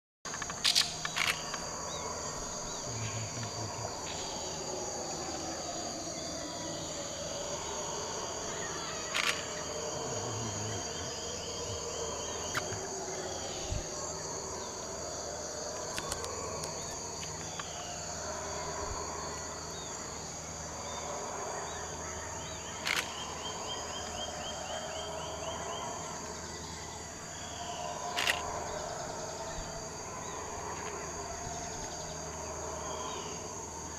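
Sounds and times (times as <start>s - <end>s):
high-pitched insect buzz: 0.3s - 33.9s
howler monkeys howling: 1.0s - 33.9s.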